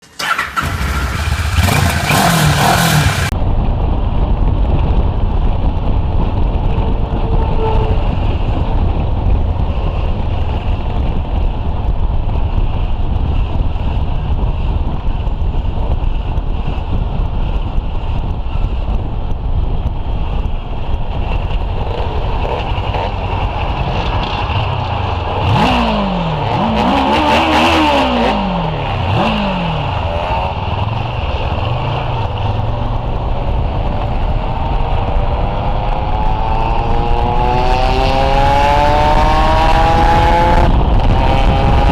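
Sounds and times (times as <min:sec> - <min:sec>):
motorcycle engine rumbling: 0:00.0 - 0:41.9.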